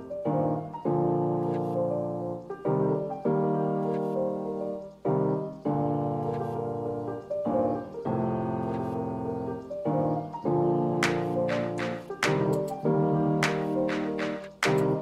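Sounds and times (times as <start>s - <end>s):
sustained piano chords: 0.0s - 15.0s.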